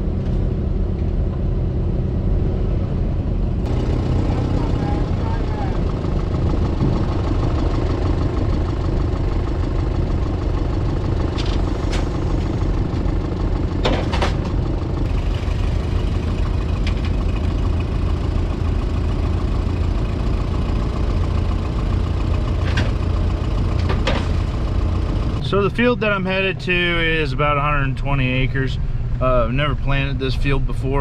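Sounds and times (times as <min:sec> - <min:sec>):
vehicle engine droning: 0:00.0 - 0:31.0.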